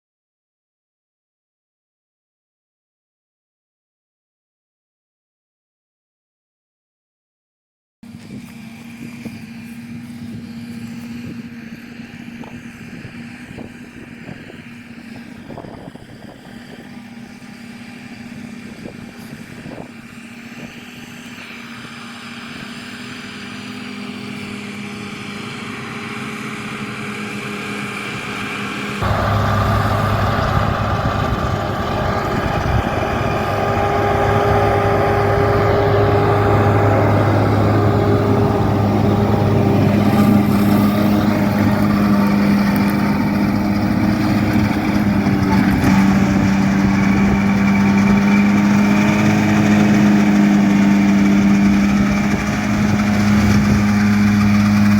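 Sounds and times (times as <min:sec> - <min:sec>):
farm machinery engine running: 0:08.1 - 0:54.9.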